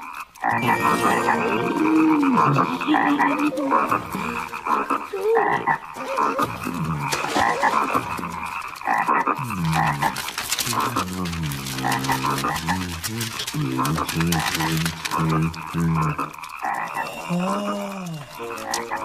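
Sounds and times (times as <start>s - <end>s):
cartoon frogs croaking: 0.0s - 19.0s.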